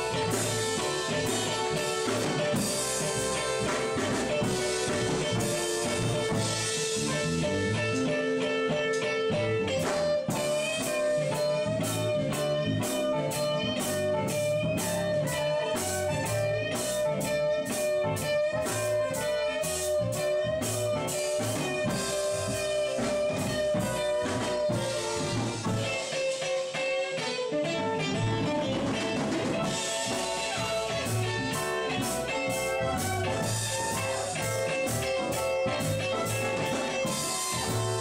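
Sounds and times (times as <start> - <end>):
drum kit steady beat: 0.0 - 38.0
electric guitar: 0.0 - 38.0.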